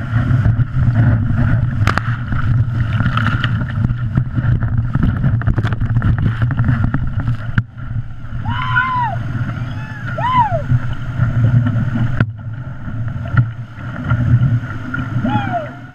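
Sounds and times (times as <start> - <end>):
water splashing: 0.0 - 15.9
whitewater rushing: 0.0 - 15.9.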